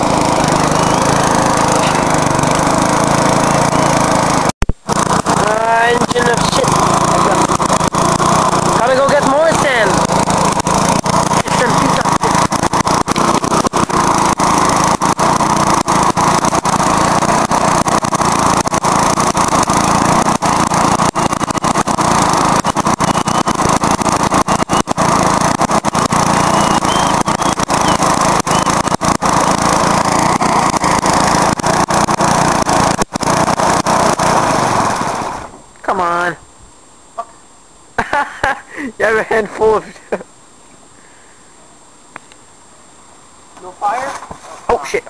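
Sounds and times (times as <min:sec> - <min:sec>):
lawnmower engine running loud: 0:00.0 - 0:36.2.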